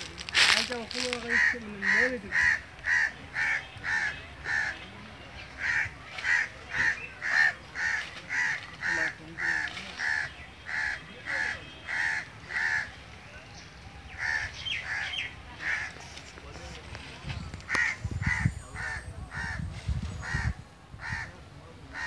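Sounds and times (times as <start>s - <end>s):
crows cawing: 0.4s - 13.0s, 14.1s - 16.0s, 17.7s - 21.3s.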